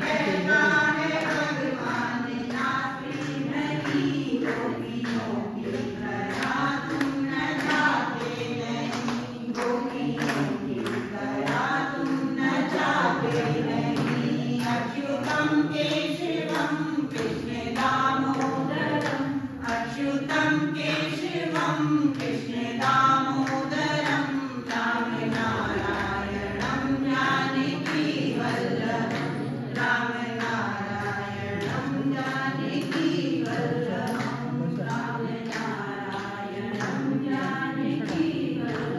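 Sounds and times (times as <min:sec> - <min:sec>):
hands clapping in time: 0:00.0 - 0:38.9
women singing together: 0:00.0 - 0:38.9.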